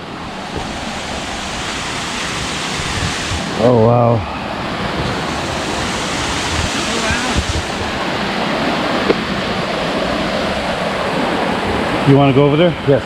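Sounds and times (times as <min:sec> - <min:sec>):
loud rush of falling water: 0:00.0 - 0:13.0.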